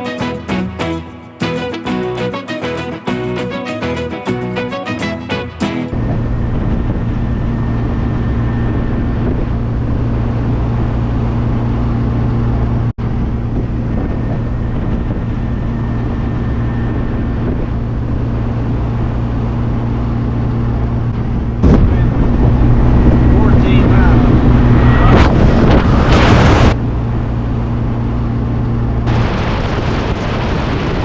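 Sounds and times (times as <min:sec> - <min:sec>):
car engine drone: 0:05.9 - 0:30.9
road and wind noise: 0:05.9 - 0:31.0.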